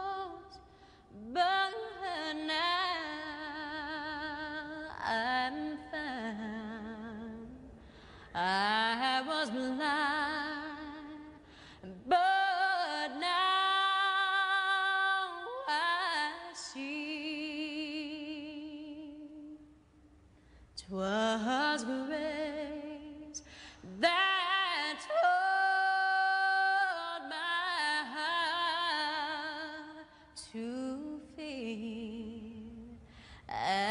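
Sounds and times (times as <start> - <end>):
woman singing with vibrato: 0.0 - 19.8, 20.8 - 33.9.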